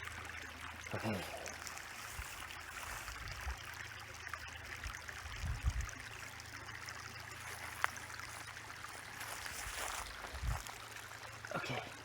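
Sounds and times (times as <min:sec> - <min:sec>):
stream trickling: 0:00.0 - 0:12.0.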